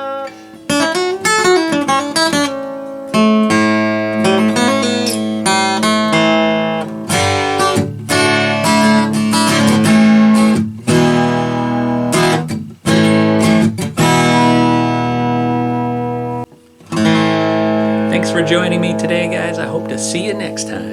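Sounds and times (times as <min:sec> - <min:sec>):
amplified acoustic guitar chords: 0:00.0 - 0:20.9.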